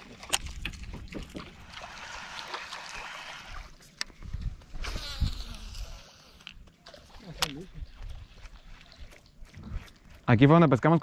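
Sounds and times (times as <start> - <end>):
water sloshing around a boat: 0.0 - 4.9, 5.6 - 11.0.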